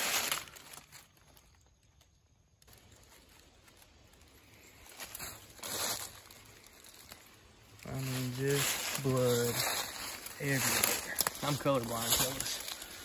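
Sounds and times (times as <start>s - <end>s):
footsteps rustling dry leaves: 0.0s - 13.0s.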